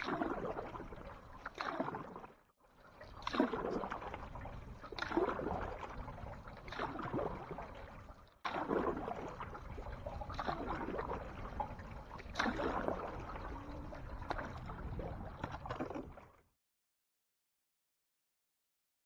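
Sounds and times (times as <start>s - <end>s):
paddle splashing water: 0.0s - 16.4s.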